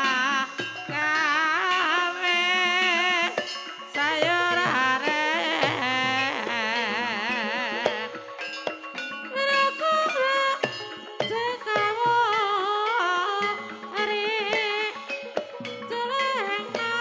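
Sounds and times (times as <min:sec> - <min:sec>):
gamelan percussion: 0:00.0 - 0:17.0
person singing with vibrato: 0:00.0 - 0:17.0.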